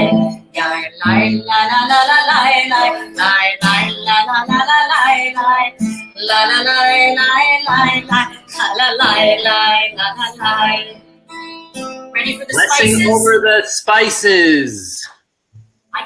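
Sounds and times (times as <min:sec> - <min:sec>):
guitar accompaniment: 0:00.0 - 0:14.8
person singing wordless melody: 0:00.0 - 0:15.0.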